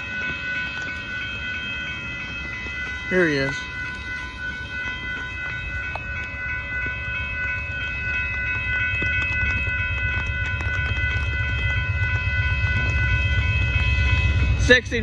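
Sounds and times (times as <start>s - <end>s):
crossing warning bells ringing: 0.0s - 15.0s
train rumble: 0.0s - 15.0s.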